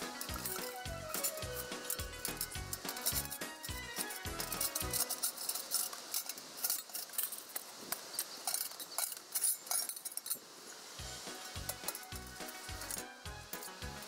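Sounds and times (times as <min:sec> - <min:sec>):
metal pipes clinking and scraping: 0:00.0 - 0:10.4, 0:11.3 - 0:14.0.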